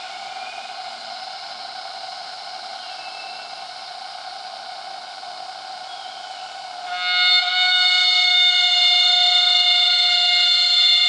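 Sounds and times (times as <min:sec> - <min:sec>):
cicadas droning: 0:00.0 - 0:11.0
loud cicada song: 0:00.0 - 0:11.0.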